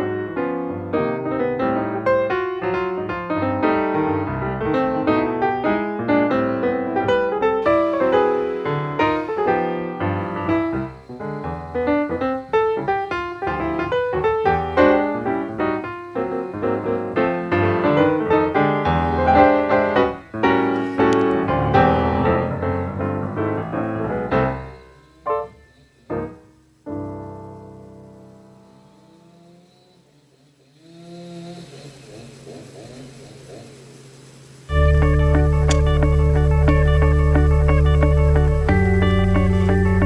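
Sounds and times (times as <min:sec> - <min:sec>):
piano music: 0:00.0 - 0:29.3, 0:34.2 - 0:40.0.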